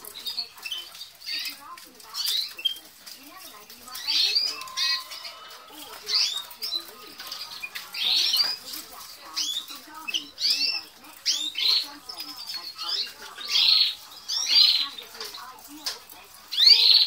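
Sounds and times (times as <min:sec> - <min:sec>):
canaries chirping: 0:00.0 - 0:17.0.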